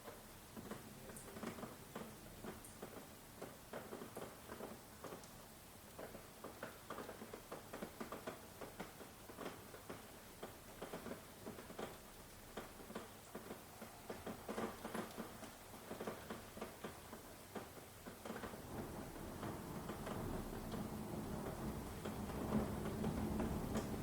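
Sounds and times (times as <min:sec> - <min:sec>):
raindrops tapping on a surface: 0:00.0 - 0:24.0
soft rain hiss: 0:00.0 - 0:24.0.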